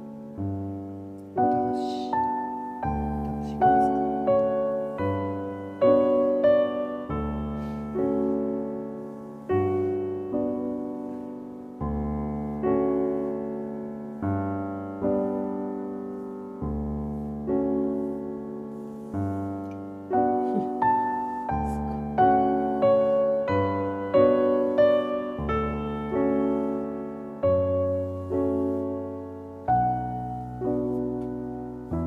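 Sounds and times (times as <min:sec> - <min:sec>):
slow solo piano: 0:00.0 - 0:32.0.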